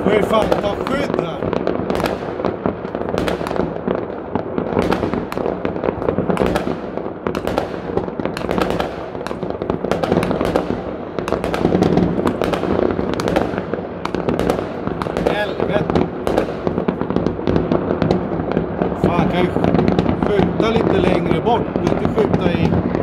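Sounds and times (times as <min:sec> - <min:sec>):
fireworks bangs and crackle: 0:00.0 - 0:23.0.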